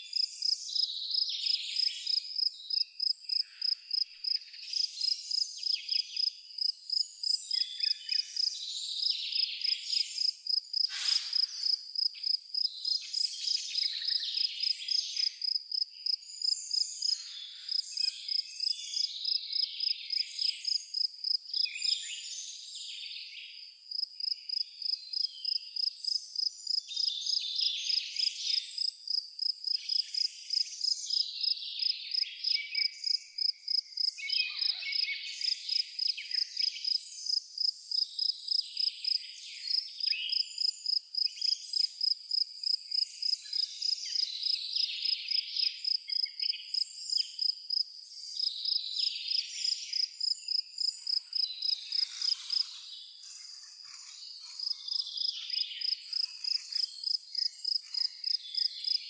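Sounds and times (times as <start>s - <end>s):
cricket chirping: 0.1s - 22.0s, 23.6s - 59.0s.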